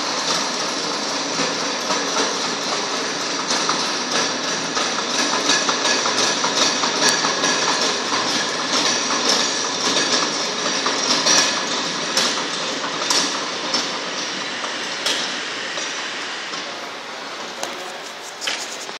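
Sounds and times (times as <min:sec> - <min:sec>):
hammer mill rattling: 0:00.0 - 0:16.0.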